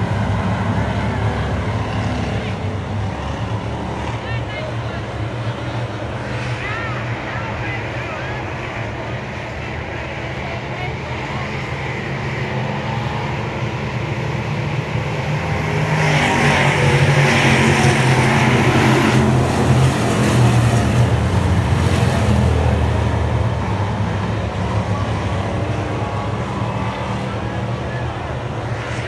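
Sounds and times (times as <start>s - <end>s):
race car engine: 0.0s - 29.0s
rushing noise: 0.0s - 29.0s.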